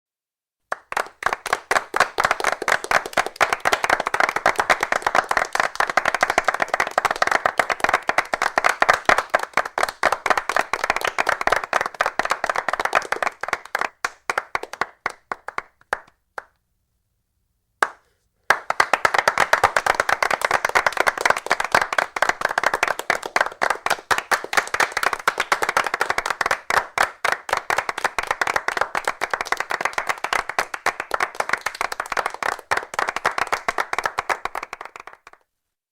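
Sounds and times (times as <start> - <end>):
people applauding: 0.7 - 16.6, 17.8 - 35.5.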